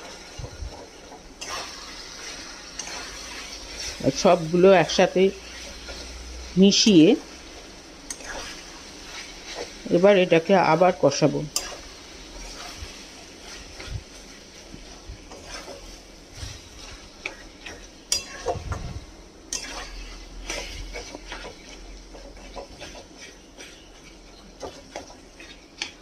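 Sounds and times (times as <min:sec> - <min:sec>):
metal spatula scraping pan: 0:00.0 - 0:07.1, 0:08.1 - 0:10.1, 0:11.5 - 0:26.0.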